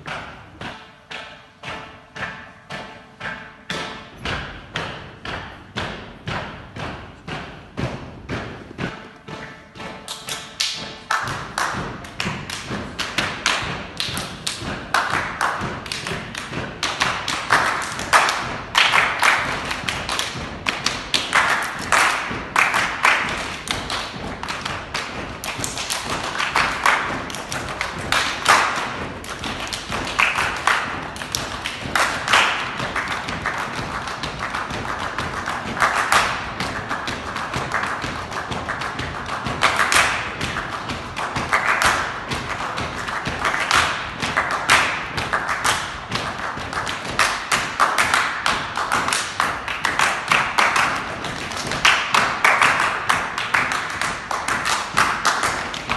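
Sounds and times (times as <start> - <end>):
hand percussion ensemble: 0.0 - 55.9.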